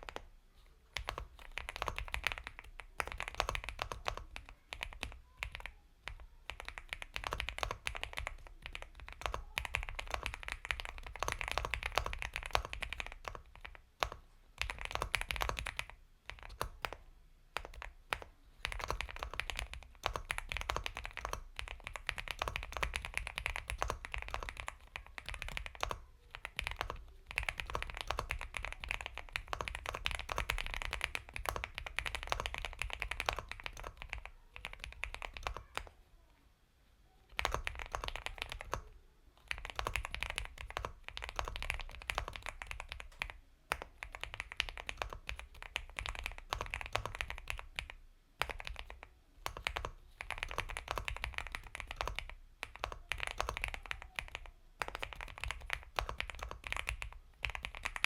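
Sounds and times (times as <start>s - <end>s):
soft mechanical keyboard typing: 0.0s - 36.3s, 37.1s - 58.0s.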